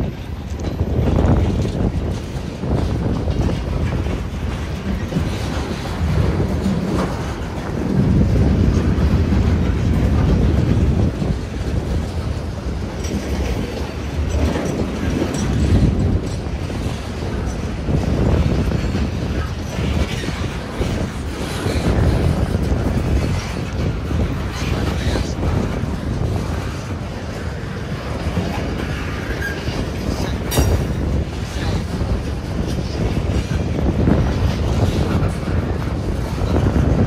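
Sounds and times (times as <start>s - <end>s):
freight train rumbling past: 0.0s - 37.0s
wheels clacking over track: 0.0s - 37.0s.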